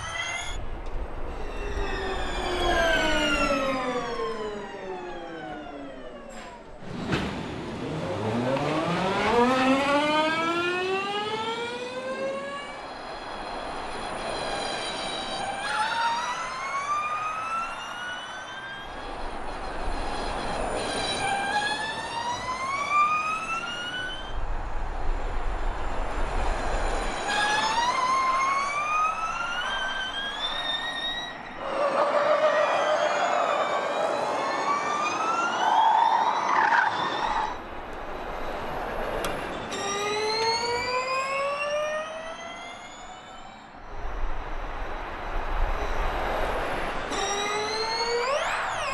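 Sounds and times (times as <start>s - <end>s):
electric race car whine: 0.0s - 48.9s.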